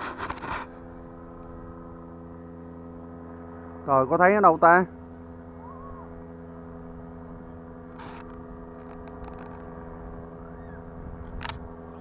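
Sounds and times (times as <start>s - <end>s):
steady motor hum: 0.0s - 12.0s.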